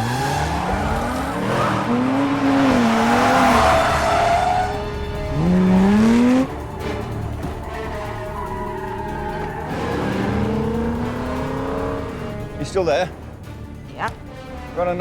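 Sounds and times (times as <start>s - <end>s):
tyres squealing: 0.0s - 13.2s
sports car engines revving: 0.0s - 14.2s.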